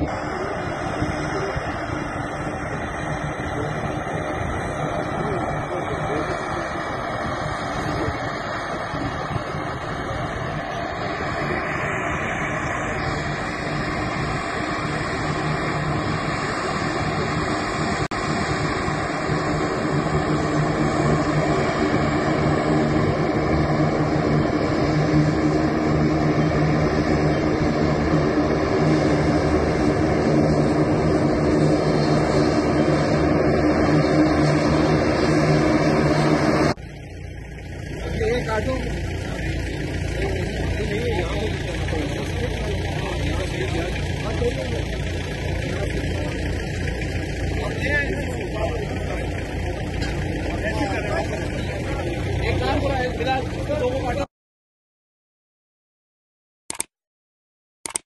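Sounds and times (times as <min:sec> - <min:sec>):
turboprop airplane engine drone: 0:00.0 - 0:54.3.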